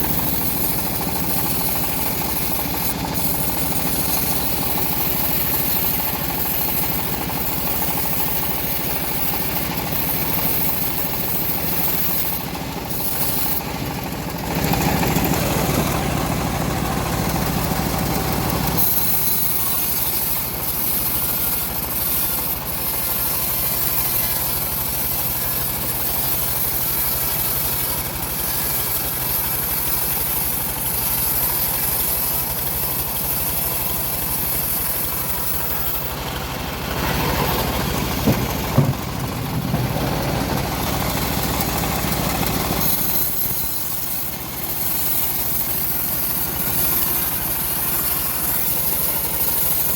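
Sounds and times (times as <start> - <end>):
sawmill engine running: 0.0 - 49.9.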